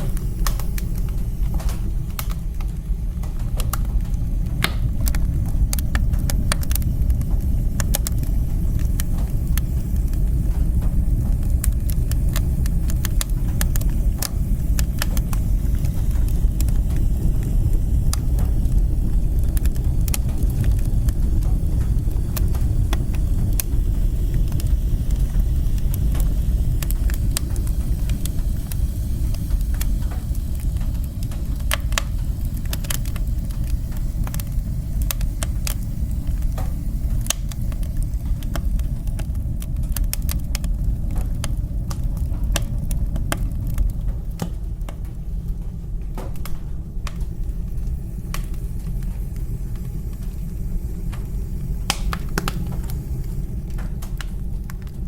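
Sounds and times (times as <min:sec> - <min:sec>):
fire crackling and popping: 0:00.0 - 0:55.0
fire roaring: 0:00.0 - 0:55.0.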